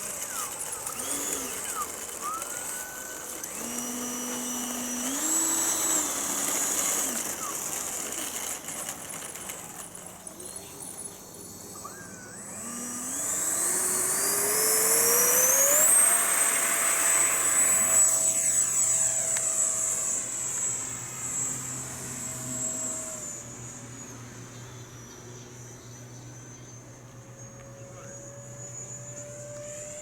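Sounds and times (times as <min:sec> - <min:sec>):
electric ducted fan whine: 0:00.0 - 0:30.0.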